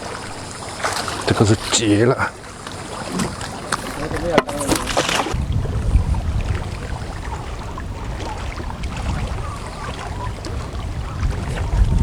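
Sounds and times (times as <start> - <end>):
choppy waves: 0.0 - 12.0
wind buffeting microphone: 0.0 - 12.0.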